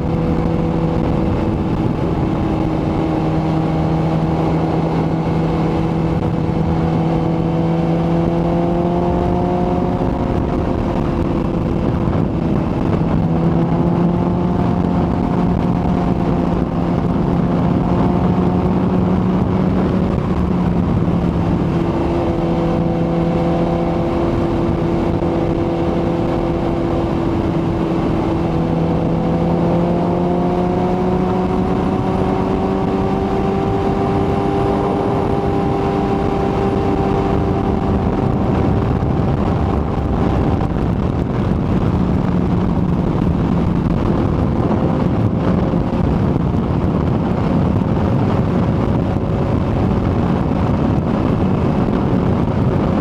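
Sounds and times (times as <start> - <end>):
motorcycle engine running: 0.0 - 53.0
wind noise: 0.0 - 53.0.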